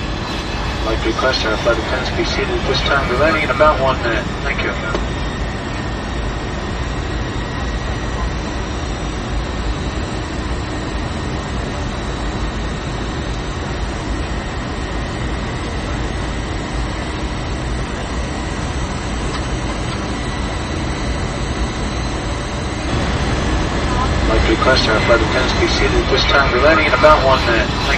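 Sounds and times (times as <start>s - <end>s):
jet airliner cabin drone: 0.0s - 27.9s.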